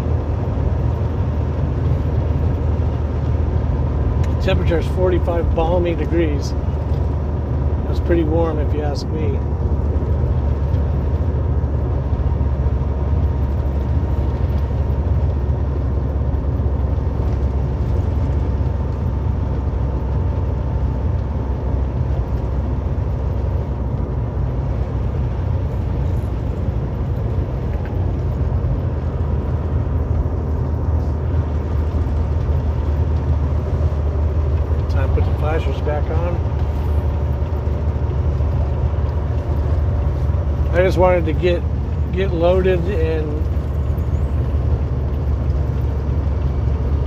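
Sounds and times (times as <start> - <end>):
road noise: 0.0 - 47.0
truck engine rumble: 0.0 - 47.0.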